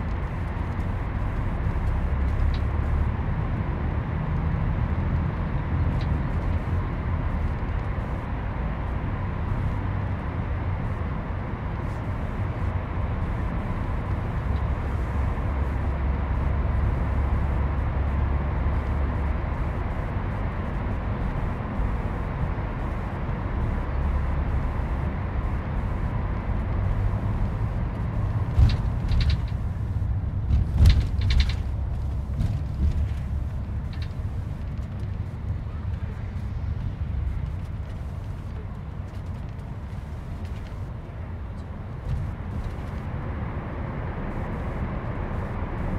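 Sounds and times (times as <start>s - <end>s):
bus engine and tyres rumbling: 0.0s - 45.9s.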